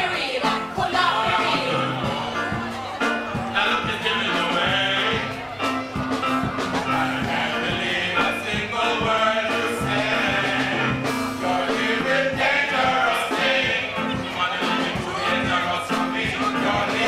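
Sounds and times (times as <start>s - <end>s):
music with singing voices: 0.0s - 17.0s.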